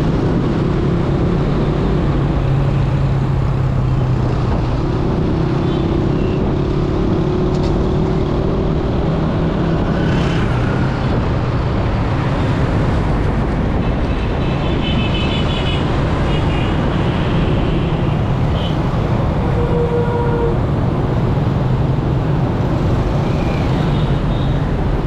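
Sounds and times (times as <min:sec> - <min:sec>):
road and wind noise: 0:00.0 - 0:25.0.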